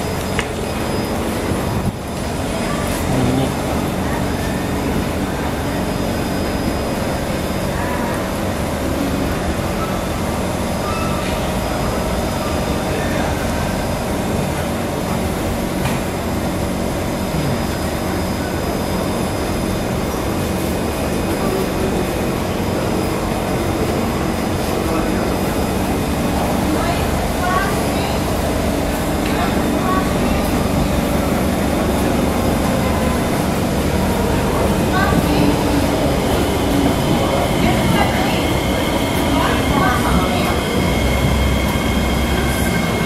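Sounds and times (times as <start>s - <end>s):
steady hum inside train: 0.0s - 43.0s.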